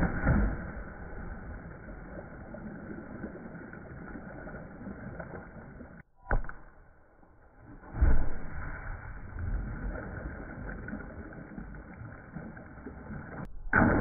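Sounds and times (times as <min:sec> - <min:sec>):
deep pool water churning: 0:00.0 - 0:06.1, 0:07.4 - 0:14.0
object plunging into pool: 0:00.0 - 0:06.8, 0:07.5 - 0:14.0.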